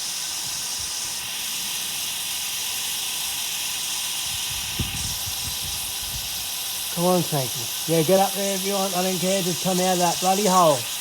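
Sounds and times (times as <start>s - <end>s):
high hiss of water: 0.0s - 11.0s.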